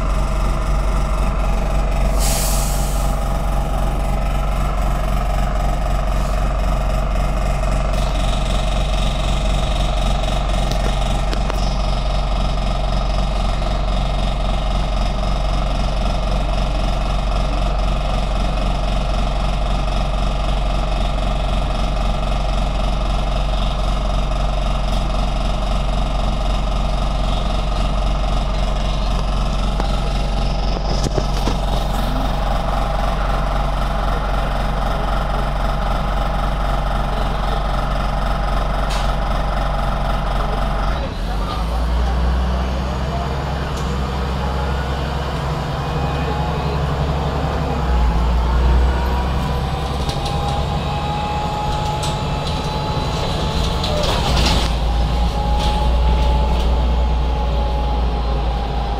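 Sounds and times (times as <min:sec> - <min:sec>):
diesel bus engine idling: 0:00.0 - 0:58.9.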